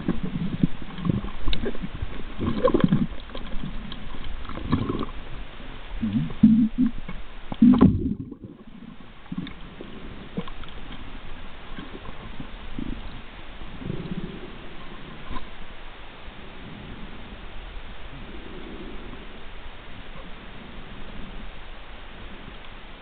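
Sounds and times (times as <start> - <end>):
underwater rumbling and gurgling: 0.0 - 23.0.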